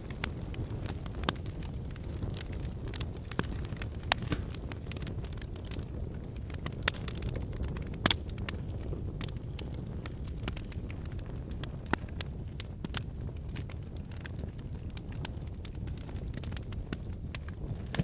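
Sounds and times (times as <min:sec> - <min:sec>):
fire crackling and snapping: 0:00.0 - 0:18.0
low rumble of flames: 0:00.0 - 0:18.0.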